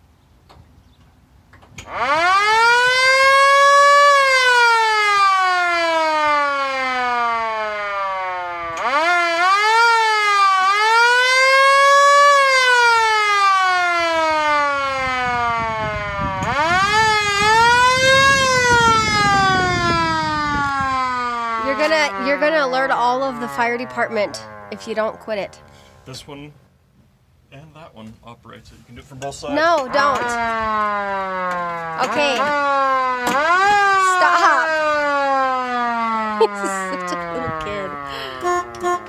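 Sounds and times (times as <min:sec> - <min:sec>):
fire truck siren wailing: 0:01.8 - 0:26.0, 0:29.5 - 0:39.0.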